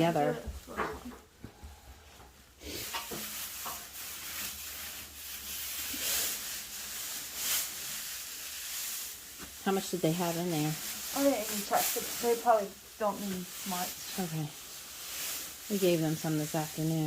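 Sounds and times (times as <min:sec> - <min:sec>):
dry hay rustling and crackling: 0:02.6 - 0:17.0.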